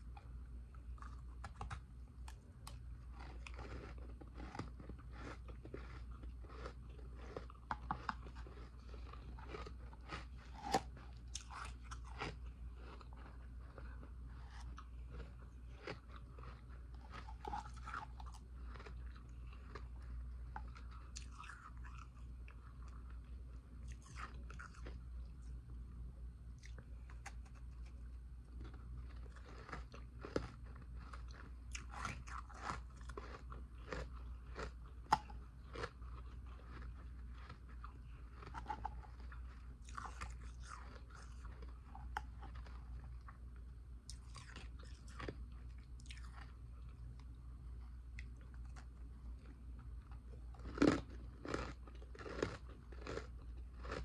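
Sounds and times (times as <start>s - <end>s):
person chewing ice: 0.0s - 25.6s, 26.6s - 47.4s, 48.0s - 54.0s.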